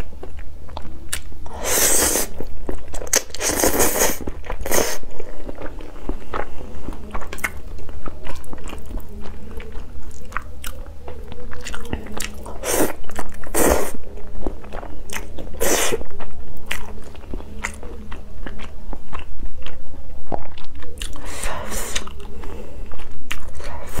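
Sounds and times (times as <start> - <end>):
chewing and slurping noodles: 0.2 - 24.0.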